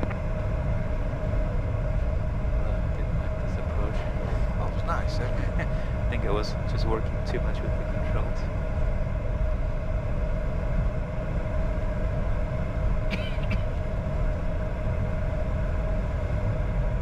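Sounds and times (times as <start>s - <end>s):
aircraft cockpit rumble and hum: 0.0s - 17.0s.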